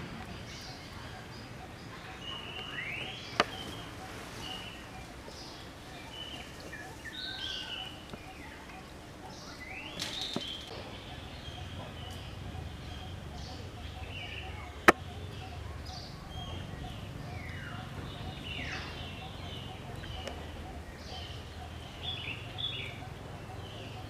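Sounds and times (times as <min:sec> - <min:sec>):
birds chirping: 0:00.0 - 0:24.0
low steady outdoor background: 0:00.0 - 0:24.0.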